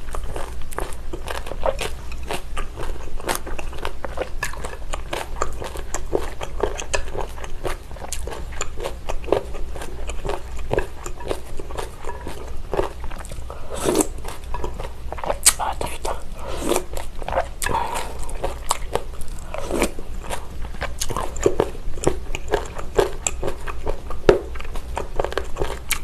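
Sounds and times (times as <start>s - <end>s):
chewing wet crunchy food: 0.0s - 26.0s.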